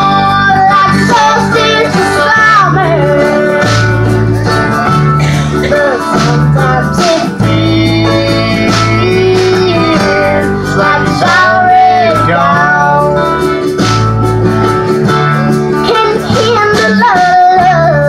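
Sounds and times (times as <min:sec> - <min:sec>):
girl singing: 0:00.0 - 0:13.4, 0:15.8 - 0:18.0
strummed acoustic guitar: 0:00.0 - 0:18.0
upright bass notes: 0:00.0 - 0:18.0.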